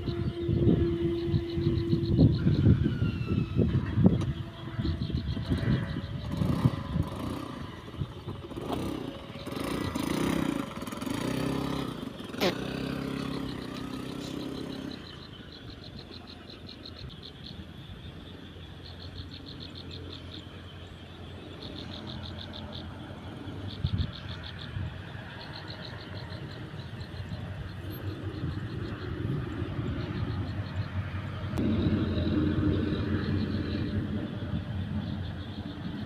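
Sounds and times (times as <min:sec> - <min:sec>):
small engine running: 0:00.0 - 0:36.0
high-pitched ticking chorus: 0:04.6 - 0:36.0.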